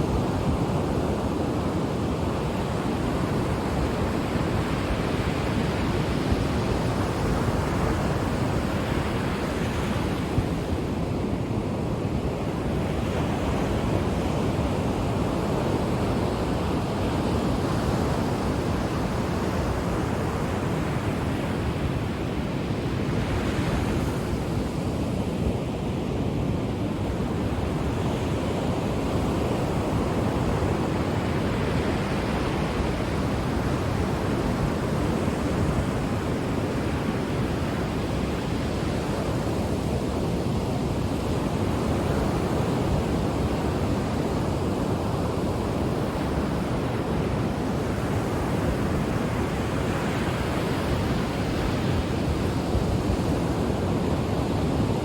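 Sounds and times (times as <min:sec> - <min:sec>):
ocean surf washing on shore: 0:00.0 - 0:55.0.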